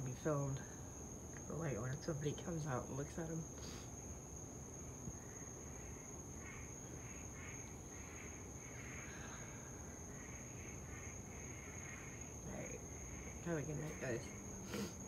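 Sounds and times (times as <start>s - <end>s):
insect chorus trilling: 0.0s - 15.0s.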